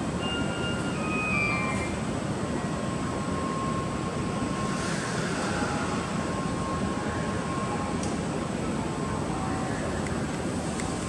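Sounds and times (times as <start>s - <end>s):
train rolling and air noise: 0.0s - 11.0s.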